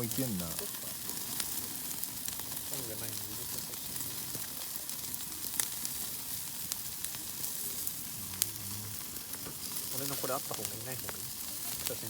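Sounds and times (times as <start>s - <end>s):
campfire sharp pops: 0.0s - 12.0s
food sizzling over campfire: 0.0s - 12.0s.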